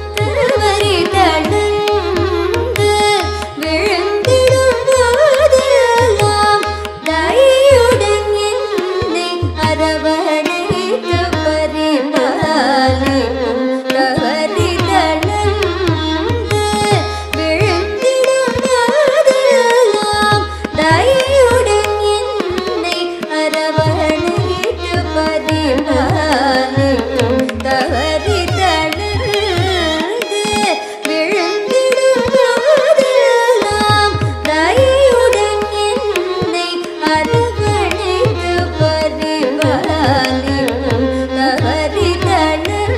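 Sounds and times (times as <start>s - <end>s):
mridangam strokes: 0.0s - 42.9s
violin: 0.0s - 42.9s
woman singing: 0.0s - 42.9s.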